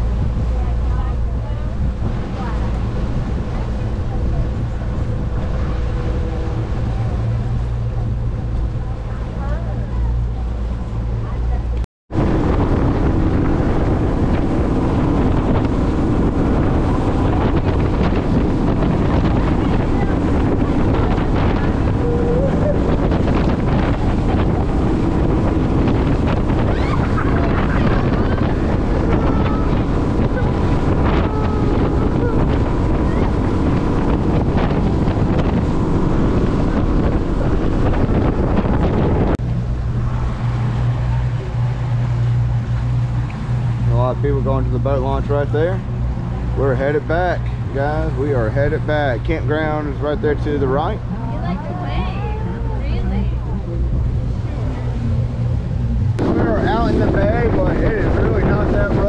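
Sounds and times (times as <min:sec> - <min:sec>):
outboard motor drone: 0:00.0 - 0:59.0
water rushing along hull: 0:00.0 - 0:59.0
wind buffeting microphone: 0:00.0 - 0:59.0.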